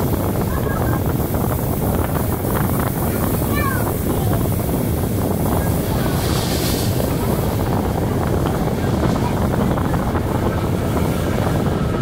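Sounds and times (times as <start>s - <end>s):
train rumble on track: 0.0s - 12.0s
wind buffeting microphone: 0.0s - 12.0s.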